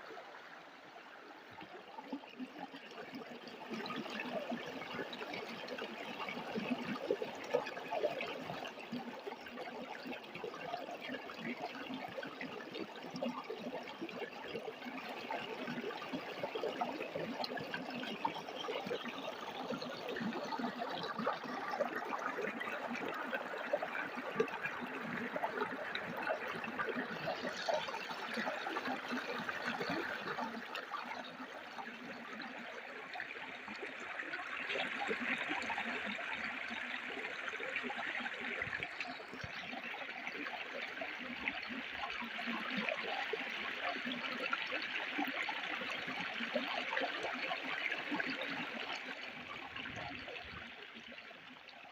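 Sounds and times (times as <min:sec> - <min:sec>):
stream water flowing and splashing: 0:00.0 - 0:51.9.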